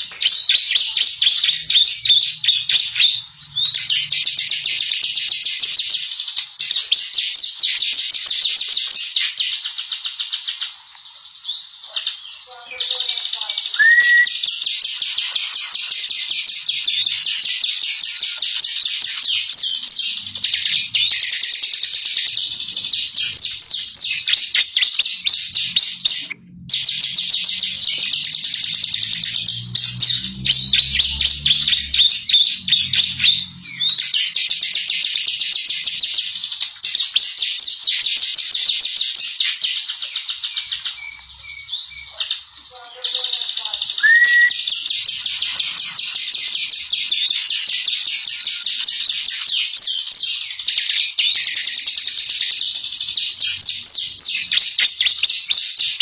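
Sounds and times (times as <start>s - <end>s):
bird singing high chirps and trills: 0.0s - 56.0s.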